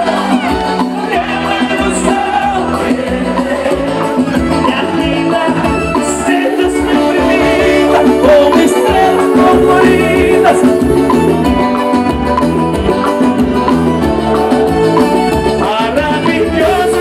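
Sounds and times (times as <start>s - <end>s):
accordion playing held notes: 0.0s - 17.0s.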